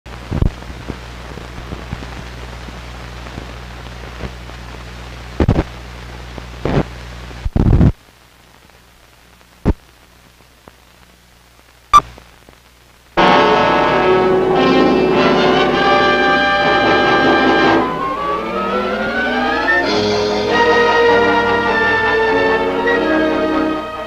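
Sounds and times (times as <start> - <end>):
film hiss: 0.1 - 24.0.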